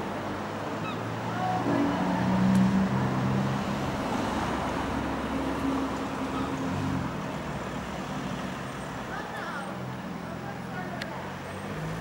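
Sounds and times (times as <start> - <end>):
car engines passing: 0.0 - 12.0
tyres on road: 0.0 - 12.0.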